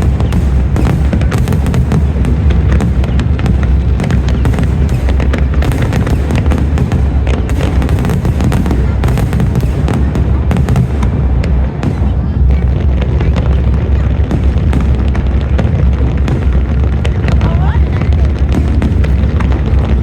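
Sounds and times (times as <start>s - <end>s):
fireworks crackling: 0.0s - 20.0s
low rumble of shell booms: 0.0s - 20.0s.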